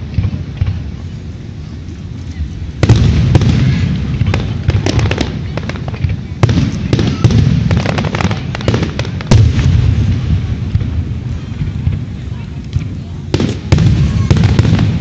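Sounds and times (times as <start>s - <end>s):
fireworks cracking and popping: 0.0s - 15.0s
heavy firework bangs: 2.8s - 15.0s.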